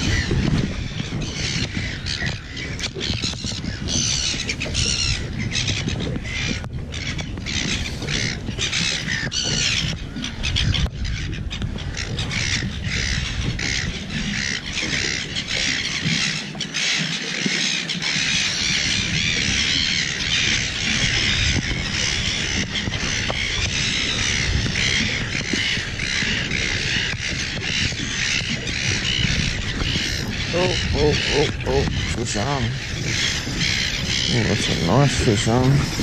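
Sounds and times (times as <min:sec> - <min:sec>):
birds squawking: 0:00.0 - 0:36.0
low rumble of wind: 0:00.0 - 0:36.0
water: 0:00.0 - 0:36.0.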